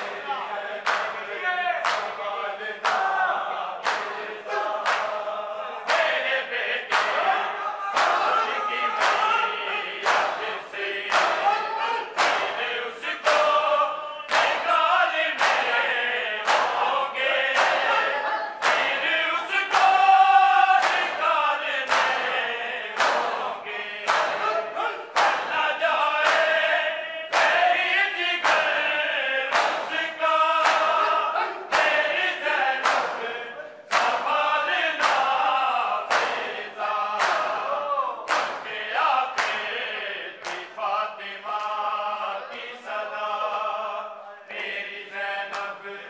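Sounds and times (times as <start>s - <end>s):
hands slapping chests: 0.0s - 22.4s, 23.0s - 23.5s, 24.1s - 26.7s, 27.3s - 28.9s, 29.5s - 39.8s, 40.4s - 40.7s
men chanting a lament: 0.0s - 46.0s.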